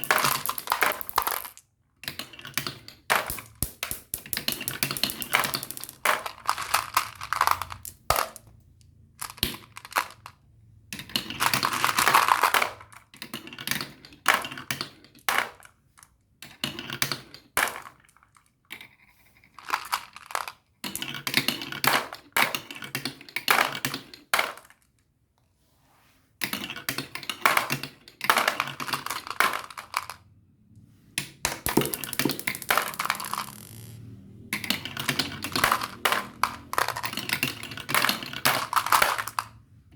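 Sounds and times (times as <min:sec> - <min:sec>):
marbles rolling and clattering: 0:00.0 - 0:08.6, 0:09.2 - 0:15.7, 0:19.5 - 0:24.7, 0:26.5 - 0:30.3, 0:31.4 - 0:39.7.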